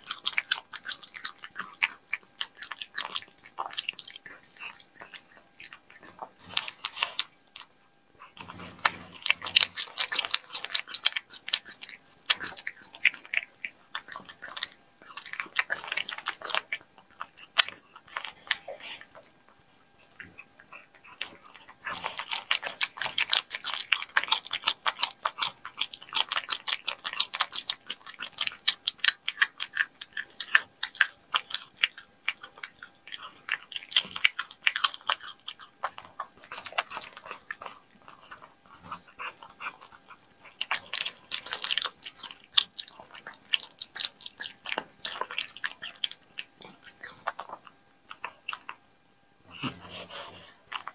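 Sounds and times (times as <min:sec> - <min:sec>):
cat chewing meat: 0:00.0 - 0:50.9.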